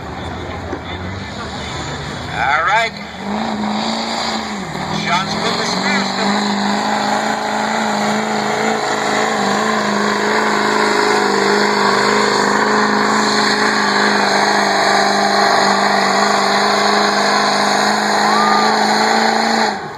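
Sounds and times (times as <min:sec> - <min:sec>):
truck engine at full throttle: 0:00.0 - 0:19.9.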